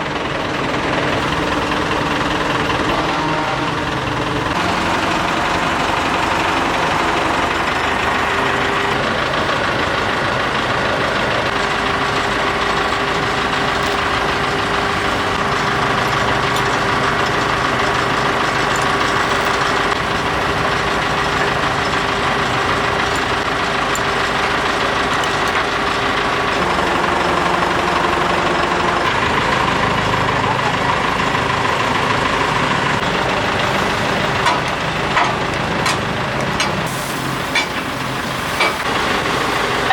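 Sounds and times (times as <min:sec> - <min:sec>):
constant whine: 0:00.0 - 0:39.9
diesel engine running: 0:00.0 - 0:39.9.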